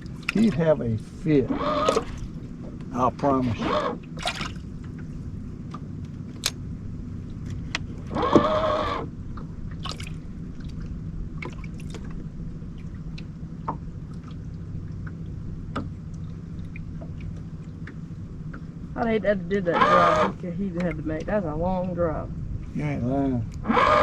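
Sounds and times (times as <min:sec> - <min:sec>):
steady low hum: 0:00.0 - 0:24.0
water lapping against boat hull: 0:00.0 - 0:24.0.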